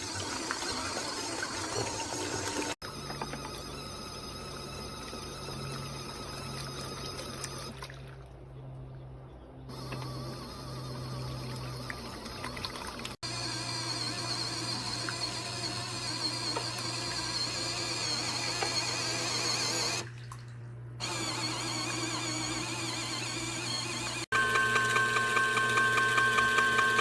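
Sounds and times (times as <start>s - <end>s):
washing machine motor hum: 0.0s - 8.0s, 9.7s - 27.0s.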